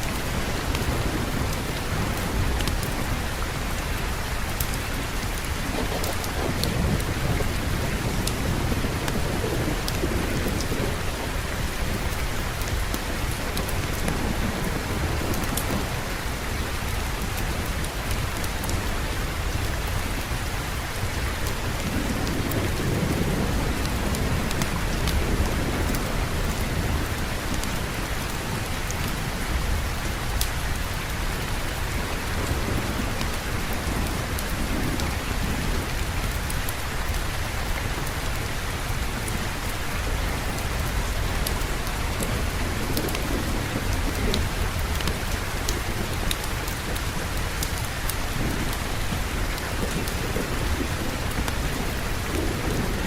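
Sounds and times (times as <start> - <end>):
low rolling thunder: 0.0 - 53.0
steady rain: 0.0 - 53.0.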